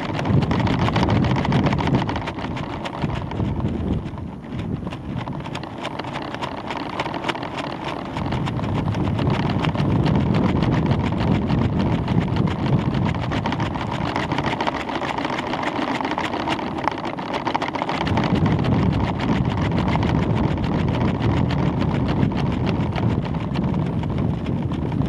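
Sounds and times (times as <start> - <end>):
dense crackle of clicks: 0.0 - 25.0
wind buffeting microphone: 0.0 - 25.0.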